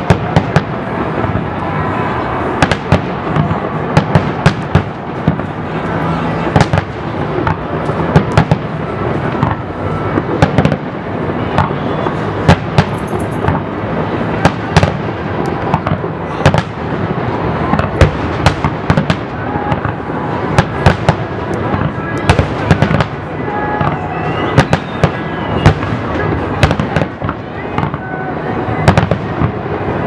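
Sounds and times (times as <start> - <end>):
fireworks bursting: 0.0 - 30.0
steady background noise: 0.0 - 30.0.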